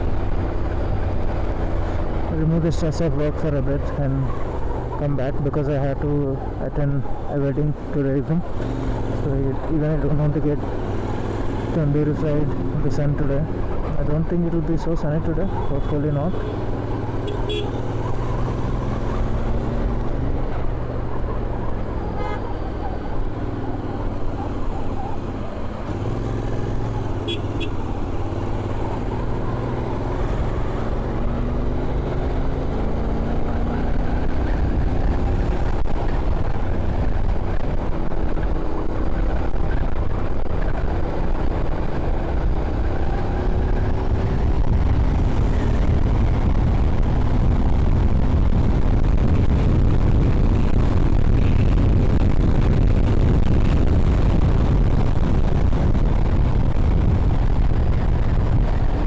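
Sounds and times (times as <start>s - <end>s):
wind and road rumble: 0.0s - 59.0s
motorcycle engine revving: 10.2s - 14.0s, 15.5s - 59.0s.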